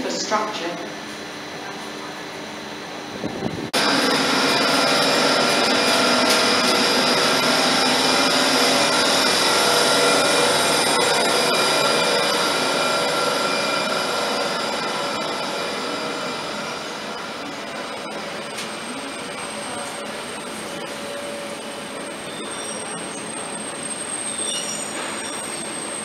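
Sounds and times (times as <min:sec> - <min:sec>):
train cooling fans blowing: 0:00.0 - 0:26.0
steady high whines: 0:02.2 - 0:25.2.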